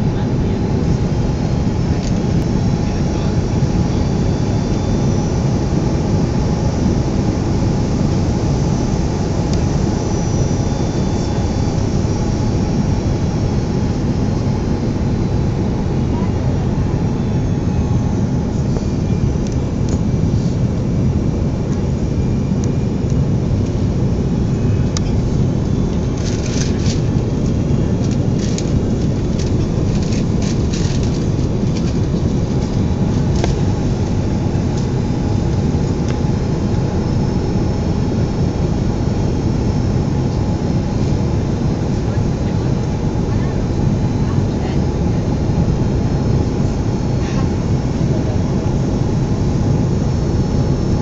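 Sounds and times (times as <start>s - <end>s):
airplane engines roaring in cabin: 0.0s - 51.0s.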